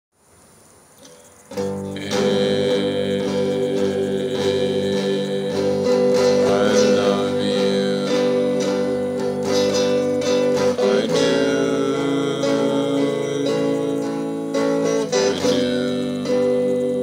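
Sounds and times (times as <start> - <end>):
guitar playing: 1.1 - 17.0
man singing: 1.5 - 17.0.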